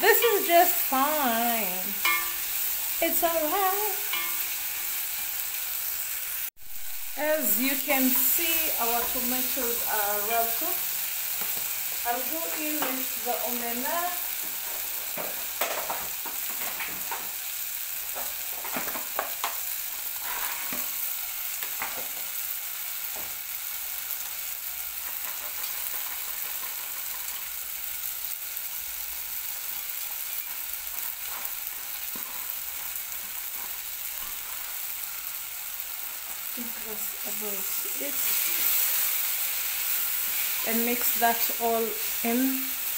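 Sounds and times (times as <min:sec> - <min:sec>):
tomatoes sizzling in a pot: 0:00.0 - 0:42.9.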